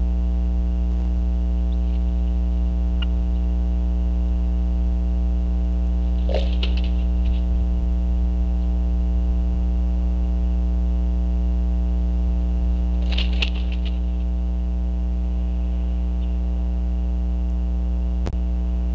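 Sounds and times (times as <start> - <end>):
loud electrical hum: 0.0 - 18.9.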